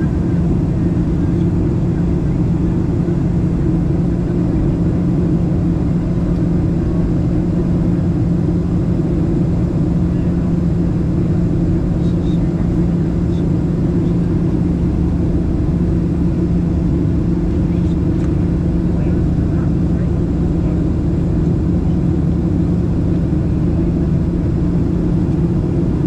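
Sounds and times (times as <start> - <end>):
airplane cabin drone: 0.0 - 26.0.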